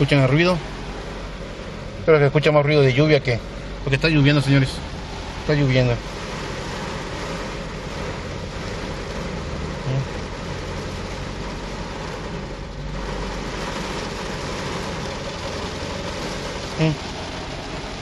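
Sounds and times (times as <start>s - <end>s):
car engine running: 0.0s - 18.0s
heavy rain on car roof: 0.0s - 18.0s.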